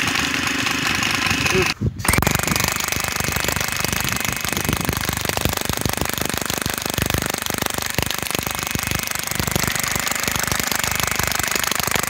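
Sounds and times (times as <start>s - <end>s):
airsoft minigun full-auto firing: 0.0s - 12.0s.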